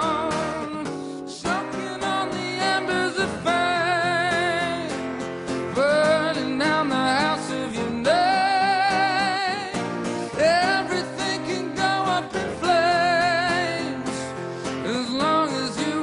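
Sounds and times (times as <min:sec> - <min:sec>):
guitar: 0:00.0 - 0:16.0
man singing with vibrato: 0:00.0 - 0:16.0.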